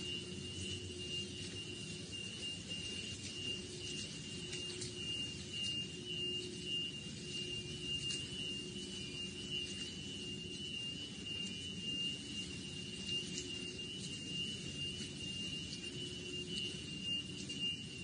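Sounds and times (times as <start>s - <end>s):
high-pitched electronic alarm tone: 0.0s - 18.0s.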